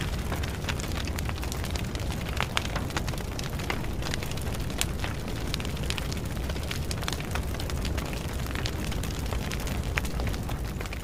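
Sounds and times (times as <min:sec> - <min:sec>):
fire crackling and popping: 0:00.0 - 0:11.0
fire rumbling: 0:00.0 - 0:11.0.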